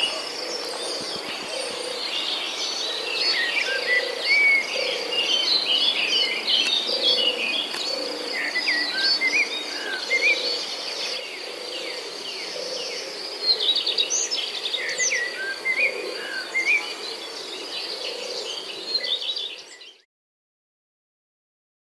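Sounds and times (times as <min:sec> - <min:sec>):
insects droning: 0:00.0 - 0:19.8
birds chirping and calling: 0:00.0 - 0:20.0.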